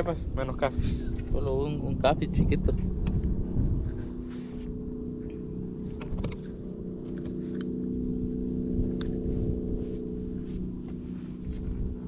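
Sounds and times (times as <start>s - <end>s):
boat motor humming: 0.0s - 12.0s
wind on microphone: 0.0s - 12.0s.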